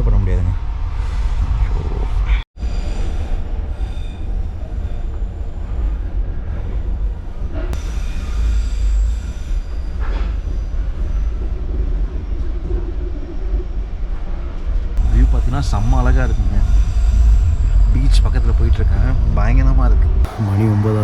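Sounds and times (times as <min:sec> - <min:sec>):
train wheels rumbling: 0:01.4 - 0:21.0.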